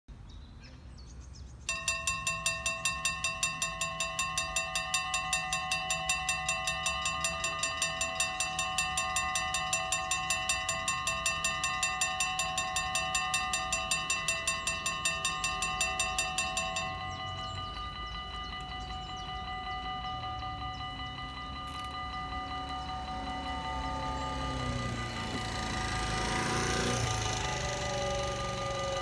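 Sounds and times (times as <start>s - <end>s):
level crossing bells ringing: 1.6s - 29.0s.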